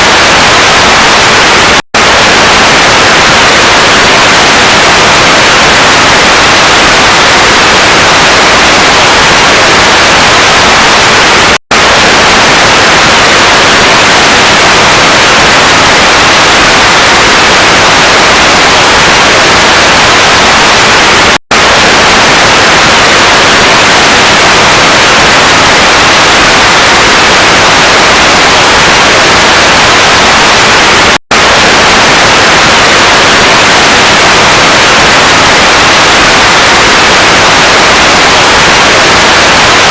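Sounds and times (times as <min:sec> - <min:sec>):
white noise static hiss: 0:00.0 - 0:39.9.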